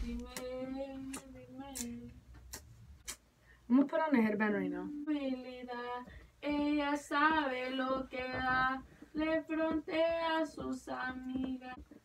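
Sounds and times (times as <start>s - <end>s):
woman singing unaccompanied: 0.0s - 2.3s, 3.7s - 12.0s.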